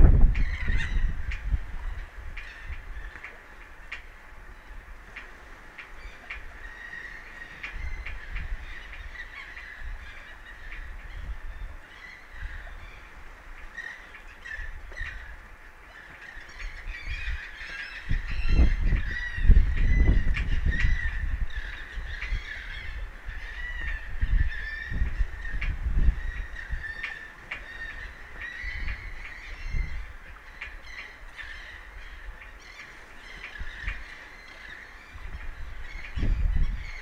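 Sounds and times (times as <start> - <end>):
wind buffeting microphone: 0.0 - 37.0
birds calling: 0.1 - 37.0.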